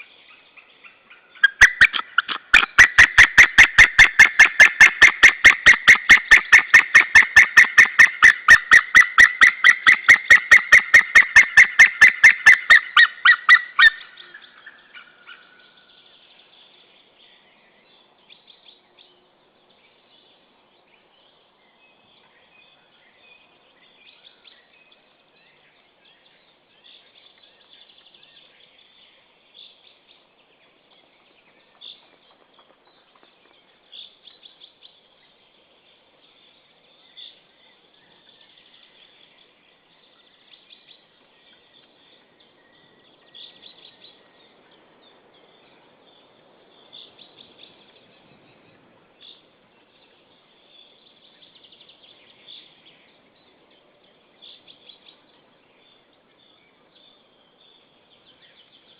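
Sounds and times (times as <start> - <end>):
bird calls and chirps: 0.0 - 58.9
faint outdoor background hiss: 0.0 - 58.9.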